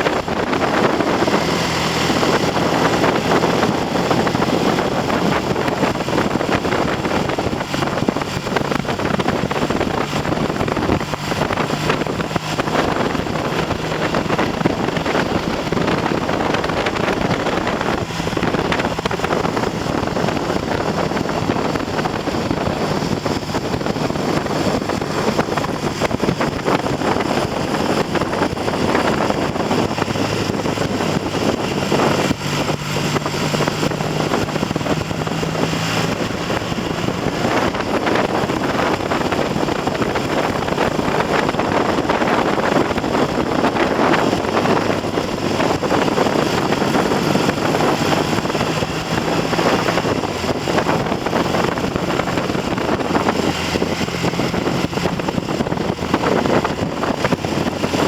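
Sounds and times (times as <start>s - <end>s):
motorcycle engine running: 0.0s - 58.0s
wind buffeting on microphone: 0.0s - 58.0s.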